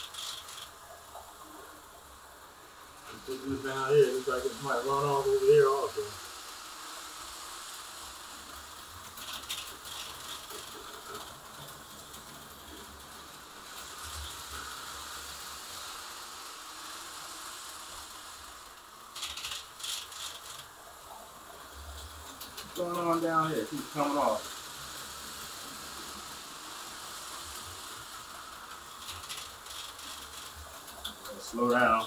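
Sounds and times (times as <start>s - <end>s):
toy car motor noise: 0.0s - 1.4s, 3.0s - 32.0s.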